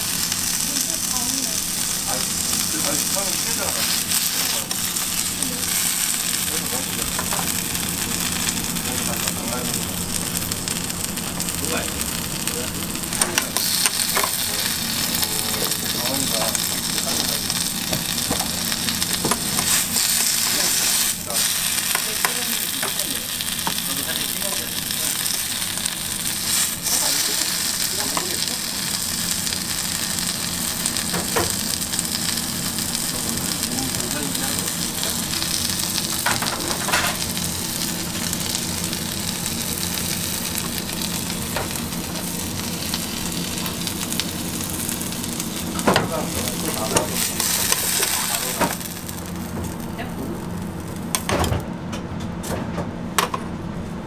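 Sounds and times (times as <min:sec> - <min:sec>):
food sizzling on a griddle: 0:00.0 - 0:51.4.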